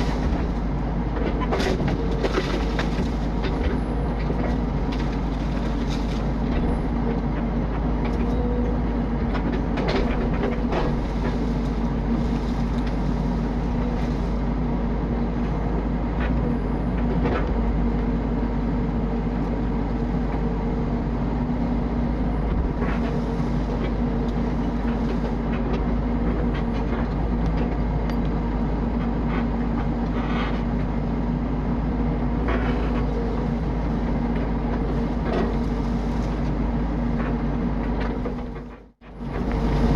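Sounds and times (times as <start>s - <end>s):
excavator engine humming: 0.0s - 39.9s.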